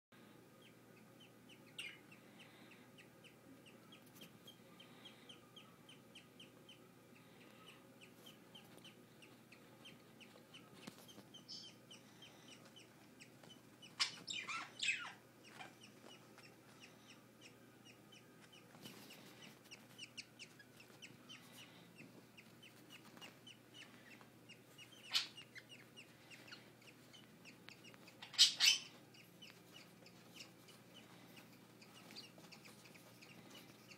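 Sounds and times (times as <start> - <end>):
budgie chicks peeping: 0.2 - 33.9.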